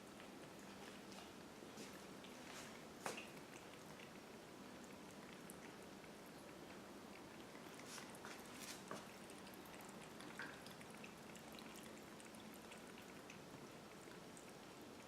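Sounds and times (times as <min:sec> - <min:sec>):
trickle of running water: 0:00.0 - 0:15.0
water drips and splashes: 0:00.0 - 0:15.0.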